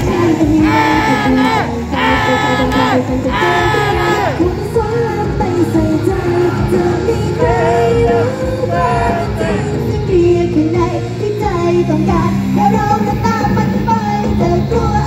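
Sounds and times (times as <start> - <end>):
pop song over loudspeakers: 0.0 - 15.0
women singing: 0.0 - 15.0.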